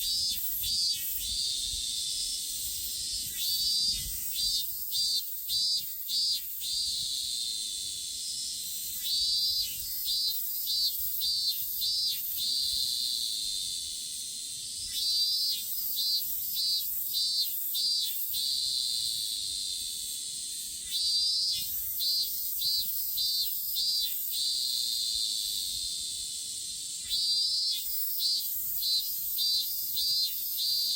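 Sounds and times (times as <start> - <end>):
cicada buzzing: 0.0 - 30.9
cicada pulsing song: 0.0 - 30.9.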